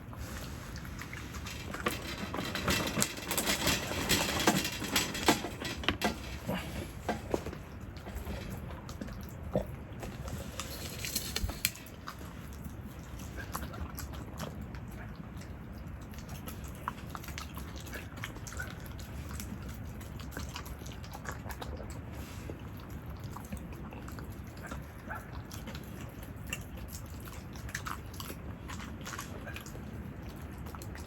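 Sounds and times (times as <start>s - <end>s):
dog chewing and crunching food: 0.0s - 31.0s.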